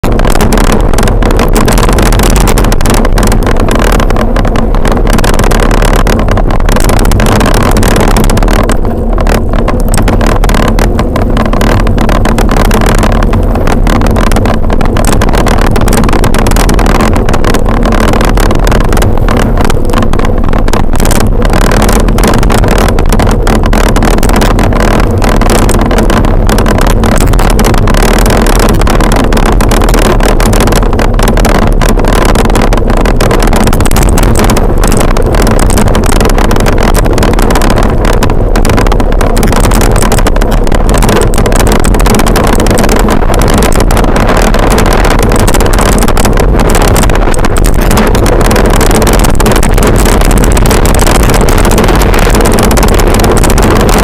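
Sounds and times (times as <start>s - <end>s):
wind buffeting on microphone: 0.0s - 54.0s.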